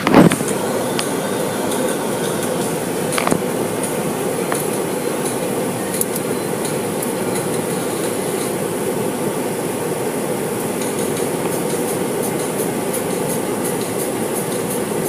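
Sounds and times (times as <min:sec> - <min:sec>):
car wash equipment rumbling: 0:00.0 - 0:15.0
hiss: 0:00.0 - 0:15.0.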